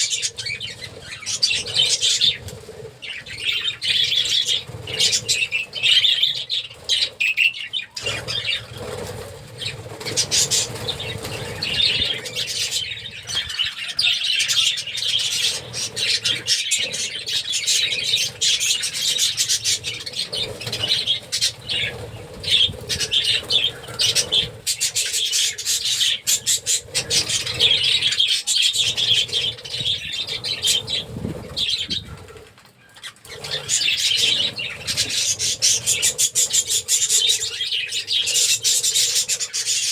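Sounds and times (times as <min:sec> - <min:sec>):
budgerigars chattering and chirping: 0:00.0 - 0:39.9
wings flapping: 0:00.0 - 0:39.9.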